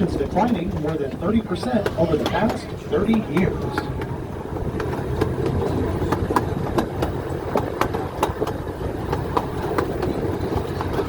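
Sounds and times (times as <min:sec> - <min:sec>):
clicks and clacks of rolling cars: 0:00.0 - 0:11.0
train rumbling on track: 0:00.0 - 0:11.0.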